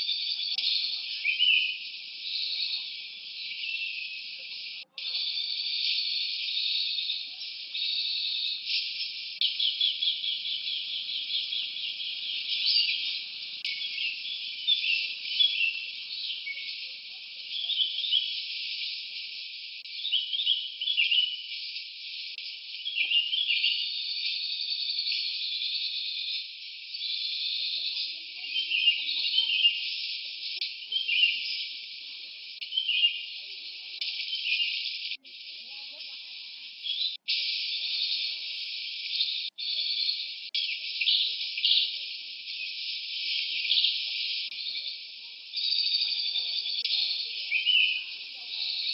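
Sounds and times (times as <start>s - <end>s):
insects buzzing: 0.0s - 24.6s, 26.2s - 48.9s
small birds chirping: 0.0s - 48.9s.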